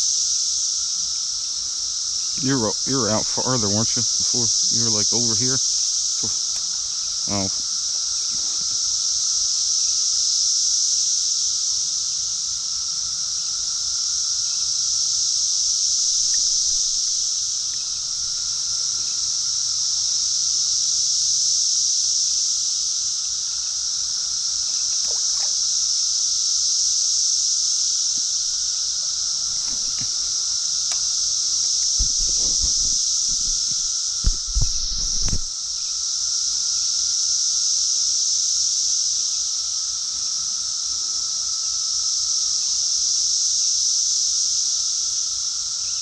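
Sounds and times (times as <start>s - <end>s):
high-pitched insect chorus buzzing: 0.0s - 46.0s.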